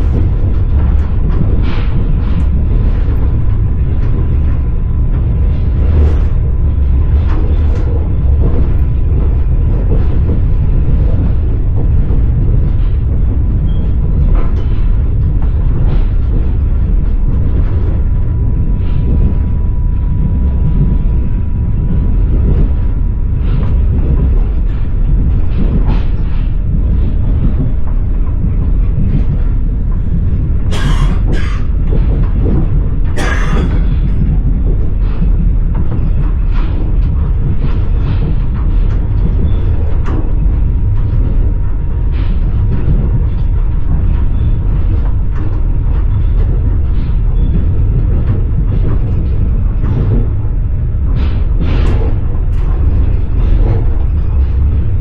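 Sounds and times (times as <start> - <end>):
train carriage rumbling on track: 0.0 - 55.0.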